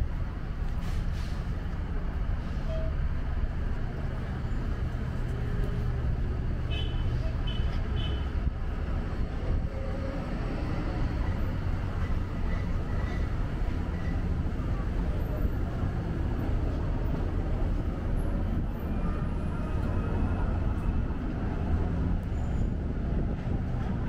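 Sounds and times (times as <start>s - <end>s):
road noise: 0.0s - 24.0s
traffic engine rumble: 0.0s - 24.0s.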